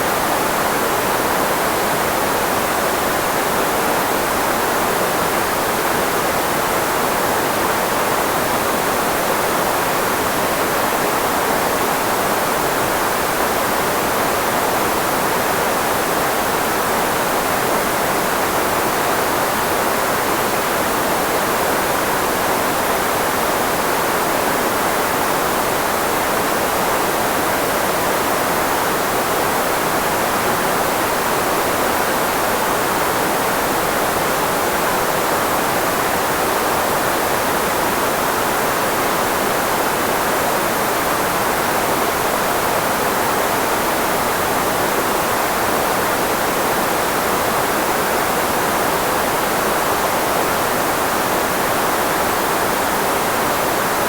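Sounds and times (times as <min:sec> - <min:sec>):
filtered white noise: 0:00.0 - 0:54.0.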